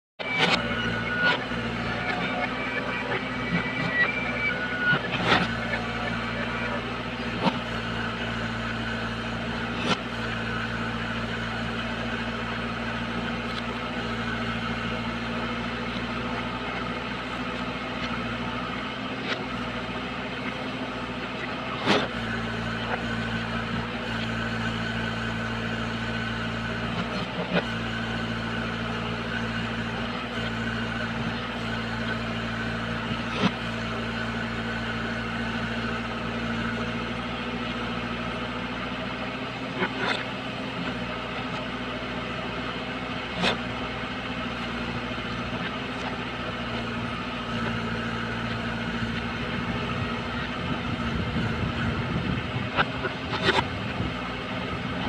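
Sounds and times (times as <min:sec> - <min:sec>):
diesel engine running: 0:00.2 - 0:55.0.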